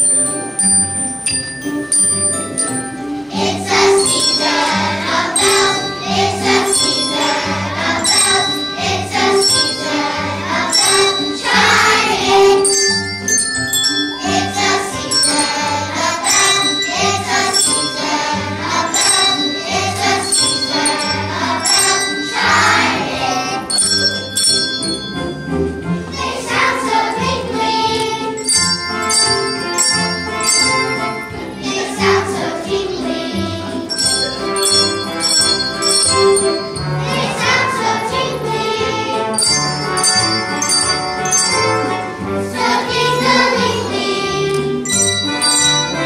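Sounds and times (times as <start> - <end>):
musical accompaniment with steady beat: 0.0 - 46.0
children's choir singing: 2.6 - 46.0.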